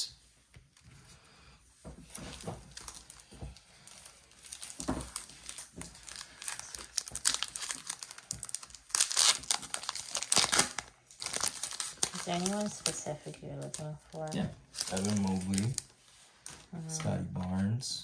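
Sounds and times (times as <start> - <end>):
plastic wrapper crinkling and tearing: 2.1 - 16.7.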